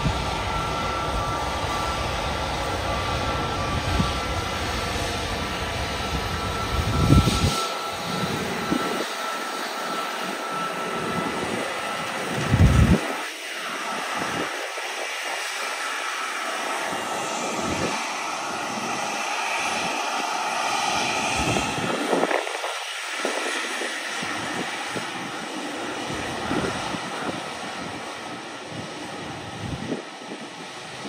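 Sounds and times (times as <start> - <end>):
high jet engine whine: 0.0 - 31.0
jet engines hissing: 0.0 - 31.0.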